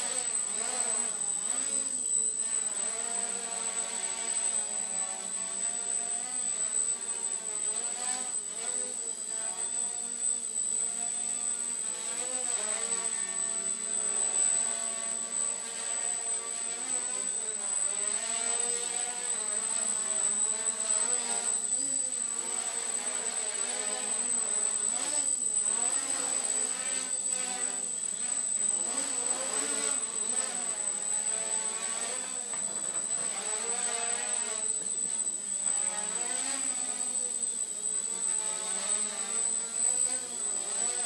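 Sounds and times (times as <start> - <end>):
quadcopter motors buzzing: 0.0 - 41.0.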